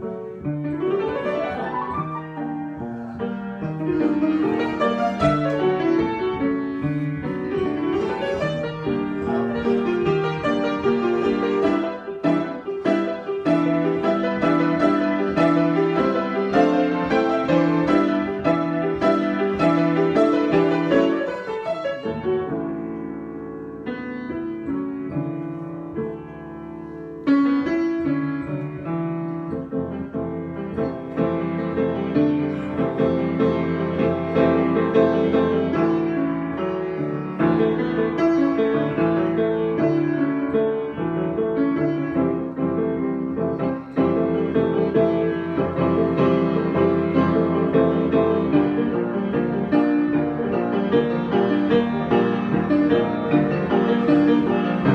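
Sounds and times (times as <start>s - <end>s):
solo piano improvisation: 0.0s - 54.9s.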